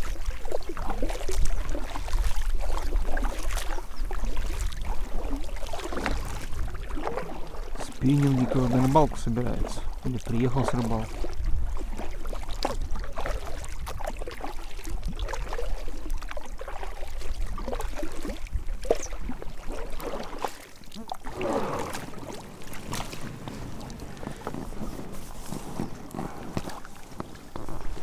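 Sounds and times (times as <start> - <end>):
drips against hull: 0.0 - 28.0
kayak paddle splashing: 0.0 - 28.0.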